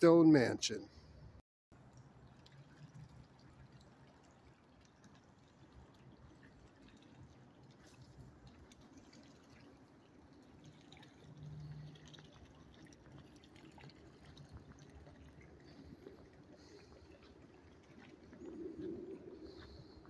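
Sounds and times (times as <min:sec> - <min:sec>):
fountain trickling and dripping: 0:01.7 - 0:20.0.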